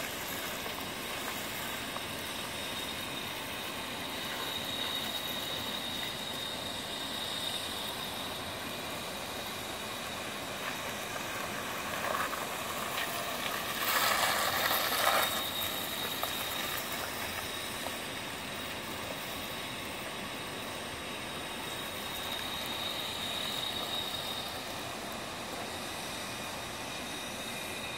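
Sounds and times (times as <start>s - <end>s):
car rolling past slowly: 0.0s - 25.9s
thin high whine: 0.0s - 27.9s.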